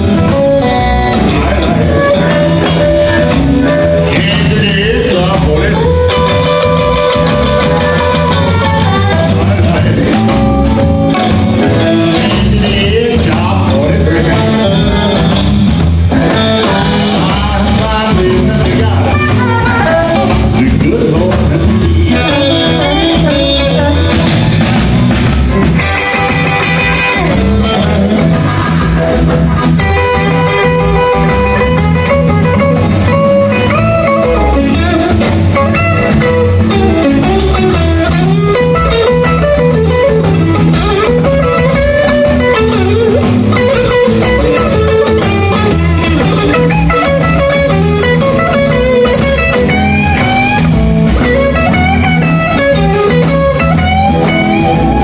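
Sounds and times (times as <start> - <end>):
electric guitar solo: 0.0 - 20.8, 21.5 - 55.0
bass guitar: 0.0 - 55.0
drums: 0.0 - 55.0.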